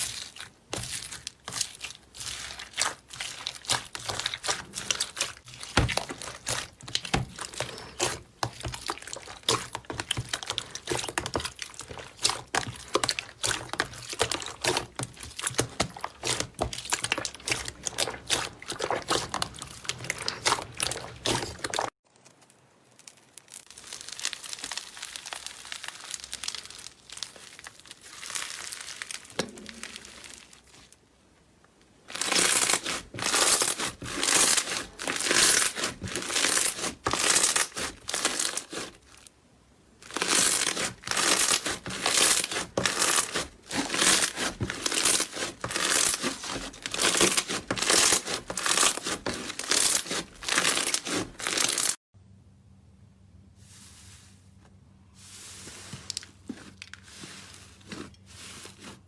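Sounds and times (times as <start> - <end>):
slime squishing: 0.0 - 22.0, 22.9 - 31.0, 32.1 - 39.3, 40.0 - 52.0, 55.3 - 59.0
slime crackling and popping: 0.0 - 31.0, 32.1 - 39.2, 40.0 - 52.0.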